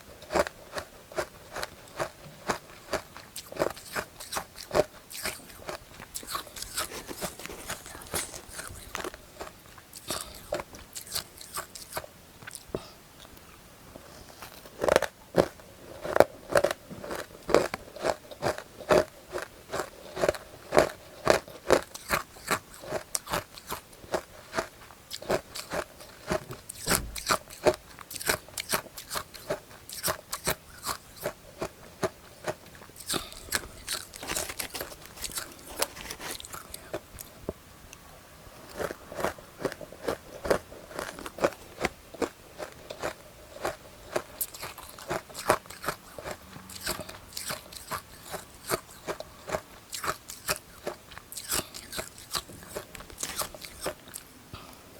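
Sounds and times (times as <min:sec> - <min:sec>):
ice crunching in mouth: 0:00.2 - 0:12.8, 0:14.4 - 0:37.4, 0:38.7 - 0:54.3.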